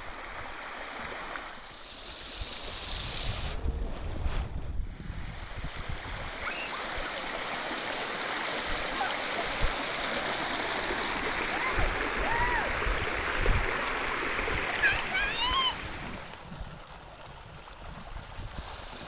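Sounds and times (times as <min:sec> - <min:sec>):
floodwater rushing along channel: 0:00.0 - 0:04.2, 0:04.9 - 0:19.0.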